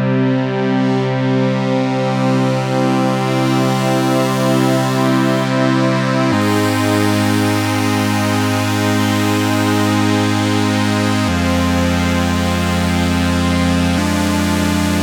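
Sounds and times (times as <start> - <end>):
synthesizer sustained chords: 0.0 - 15.0.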